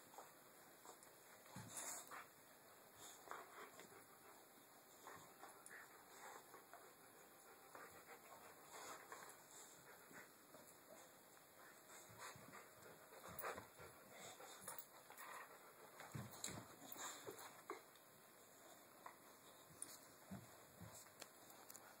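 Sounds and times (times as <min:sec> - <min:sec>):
dogs panting: 0:00.1 - 0:17.9.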